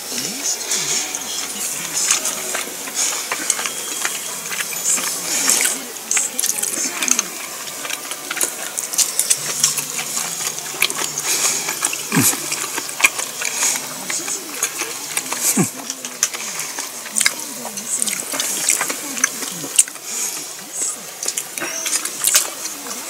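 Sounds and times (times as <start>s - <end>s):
person chewing: 0.1s - 23.0s.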